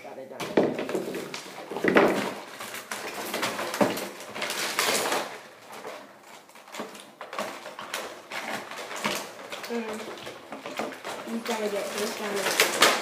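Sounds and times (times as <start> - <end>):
small items clattering: 0.3 - 13.0
packaging rustling: 0.4 - 13.0.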